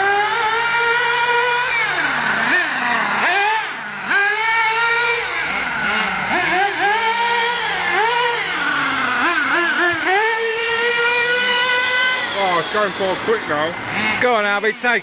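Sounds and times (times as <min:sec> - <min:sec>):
toy car motor whining: 0:00.0 - 0:15.0.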